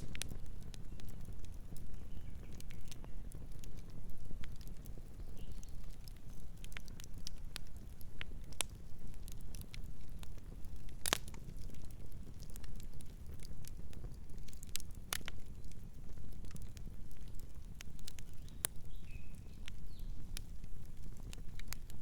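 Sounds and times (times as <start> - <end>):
burning wood crackling and popping: 0.0 - 22.0
campfire rumble: 0.0 - 22.0.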